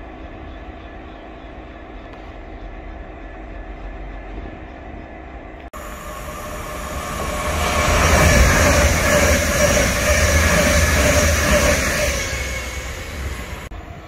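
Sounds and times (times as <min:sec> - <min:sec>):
passenger train approaching: 0:00.0 - 0:14.0.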